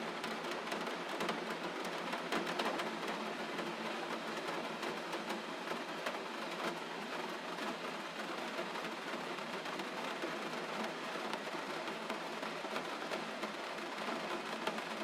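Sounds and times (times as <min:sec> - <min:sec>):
rain drops pattering: 0:00.1 - 0:15.0.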